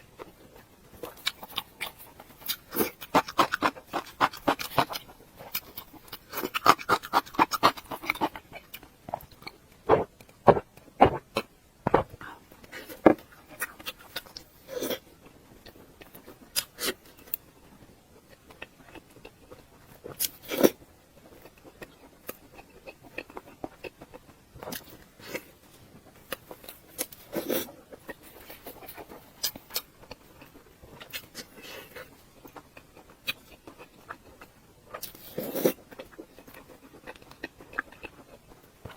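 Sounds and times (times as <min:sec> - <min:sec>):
chewing and crunching: 0:00.1 - 0:38.9.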